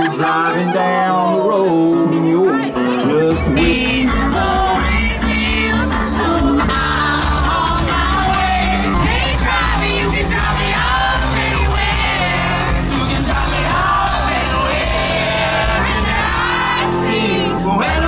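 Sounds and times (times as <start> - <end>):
crowd singing along and yelling: 0.0 - 18.0
live band with singer: 0.0 - 18.0.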